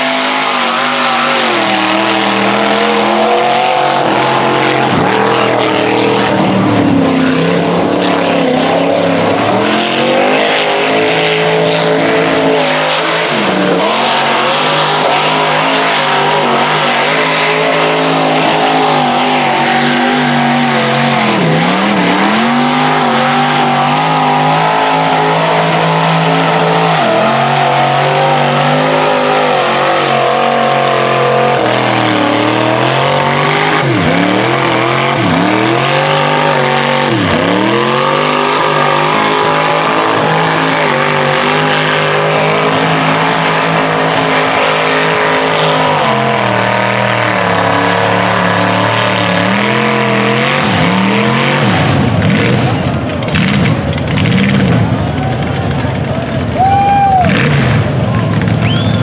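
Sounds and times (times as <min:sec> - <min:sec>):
mud spraying off spinning tyres: 0:00.0 - 0:56.5
truck engine revving hard: 0:00.0 - 0:59.0.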